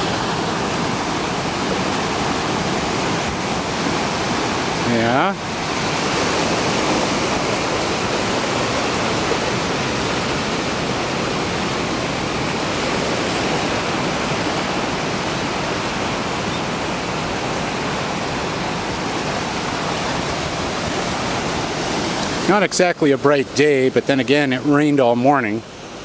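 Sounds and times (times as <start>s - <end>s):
ocean surf rushing on beach: 0.0s - 26.0s.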